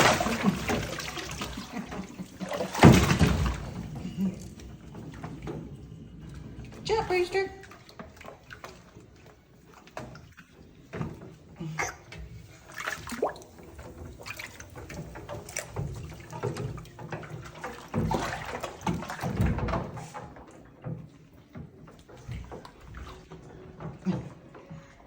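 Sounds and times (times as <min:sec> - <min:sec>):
bath water splashing and dripping: 0:00.0 - 0:25.0.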